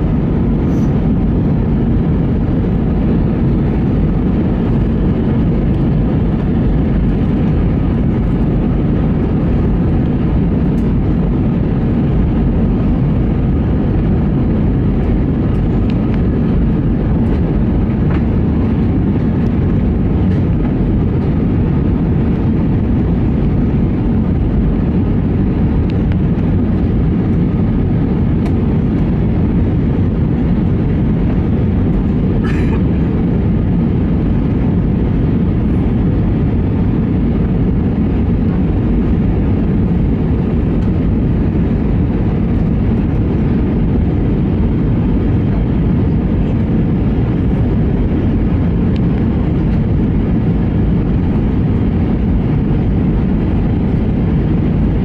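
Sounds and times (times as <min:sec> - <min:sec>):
airplane cabin jet noise: 0:00.0 - 0:55.0.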